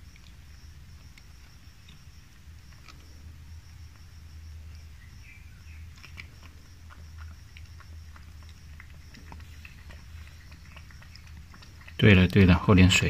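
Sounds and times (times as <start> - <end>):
cat chewing wet clicks: 0.0 - 13.0.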